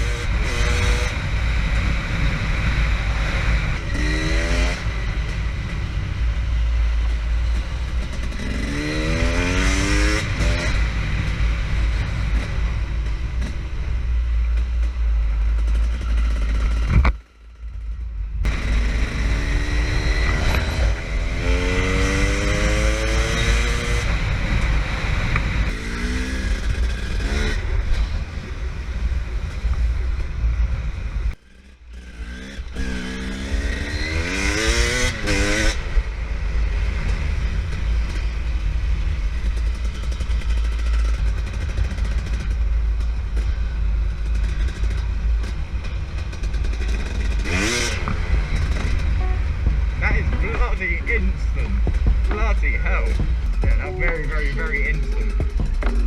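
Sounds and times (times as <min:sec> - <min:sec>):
dirt bike engine revving: 0:00.0 - 0:17.2, 0:18.4 - 0:30.4, 0:31.3 - 0:56.0.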